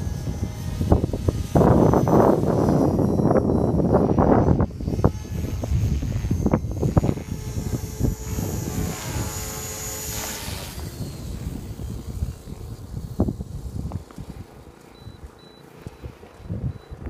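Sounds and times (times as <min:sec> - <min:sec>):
rc helicopter motor and rotor whine: 0:00.0 - 0:17.0
wind buffeting microphone: 0:00.0 - 0:17.0.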